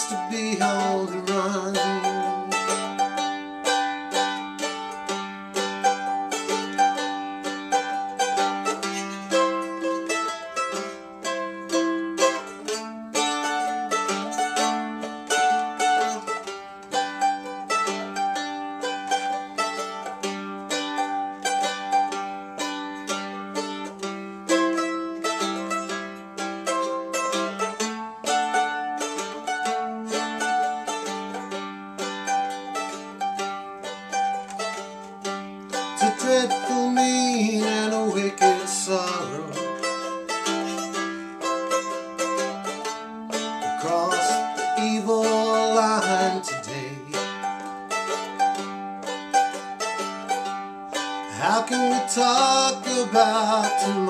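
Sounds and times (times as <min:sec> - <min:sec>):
mandolin plucked notes: 0:00.0 - 0:54.0.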